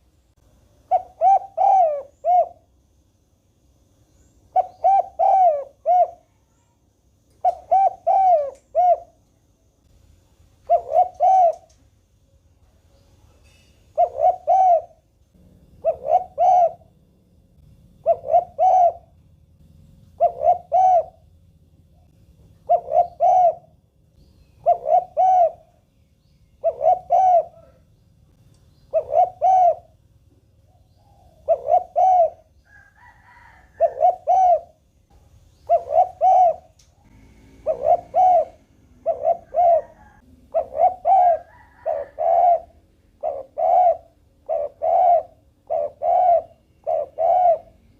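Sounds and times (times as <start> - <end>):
dove cooing: 0.7 - 2.7, 4.5 - 6.6, 7.4 - 9.3, 10.6 - 11.8, 13.3 - 34.9, 35.5 - 47.9.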